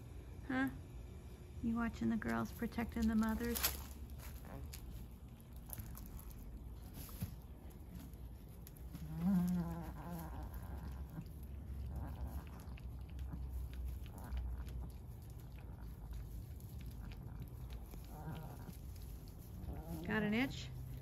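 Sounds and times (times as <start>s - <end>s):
goat nibbling in straw: 2.2s - 21.0s.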